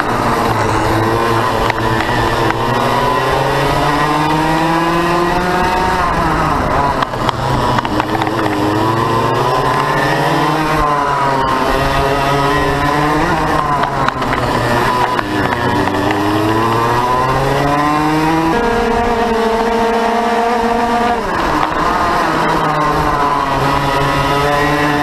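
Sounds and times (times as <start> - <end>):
racing kart engine accelerating: 0.0 - 25.0.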